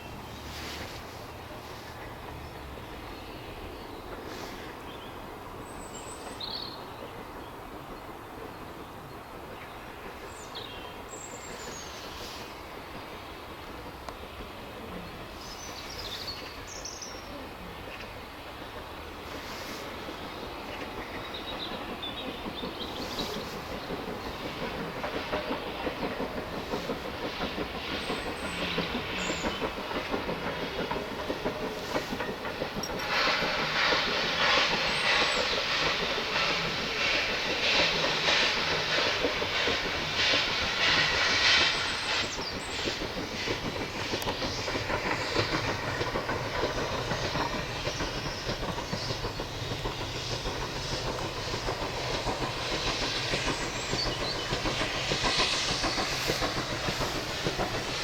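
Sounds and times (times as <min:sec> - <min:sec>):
steam hiss: 0:00.0 - 0:58.0
train wheels clattering on rails: 0:00.0 - 0:58.0.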